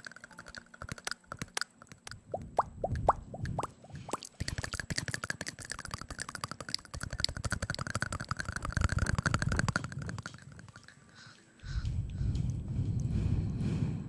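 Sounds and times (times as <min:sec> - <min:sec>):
wet tongue and lip clicks: 0:00.0 - 0:13.1.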